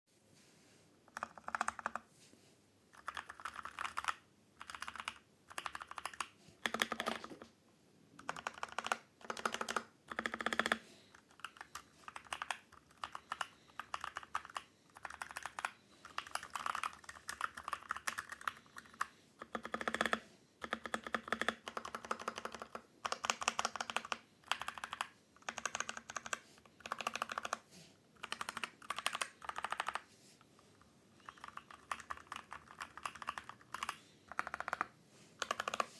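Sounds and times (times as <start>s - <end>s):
typing on mechanical keyboard: 1.1s - 2.0s, 2.9s - 7.4s, 8.2s - 27.6s, 28.2s - 30.0s, 31.2s - 35.9s.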